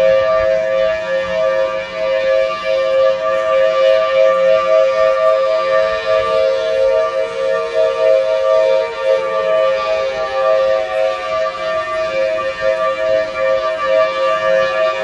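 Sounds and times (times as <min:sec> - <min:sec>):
warning siren two-note chord: 0:00.0 - 0:15.0
weaker siren tone gliding down: 0:00.0 - 0:15.0.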